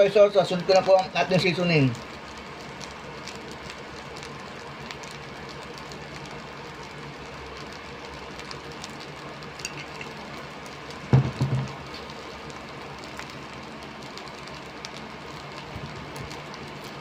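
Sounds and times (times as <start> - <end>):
faint ticks and crackles: 0.0 - 11.1, 11.7 - 17.0
low steady hum: 0.0 - 17.0
rice sizzling in a pan: 0.0 - 17.0.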